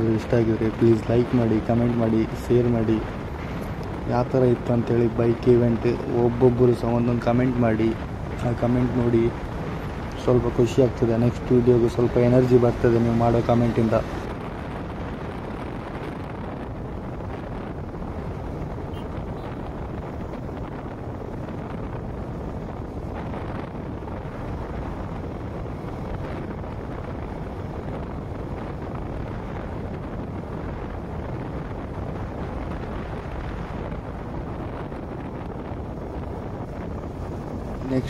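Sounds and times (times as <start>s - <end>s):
road noise: 0.0s - 38.0s
wind rush over microphone: 0.0s - 38.0s.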